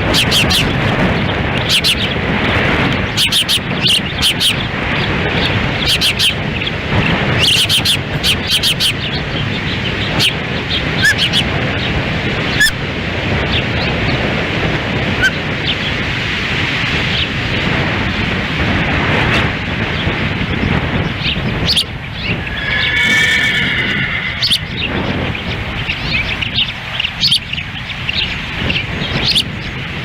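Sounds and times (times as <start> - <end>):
birds chirping high: 0.0 - 30.0
wind buffeting microphone: 0.0 - 30.0.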